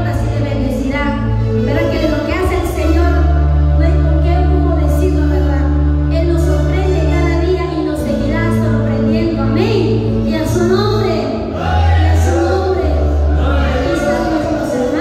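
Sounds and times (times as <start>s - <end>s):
backing music with bass notes: 0.0s - 15.0s.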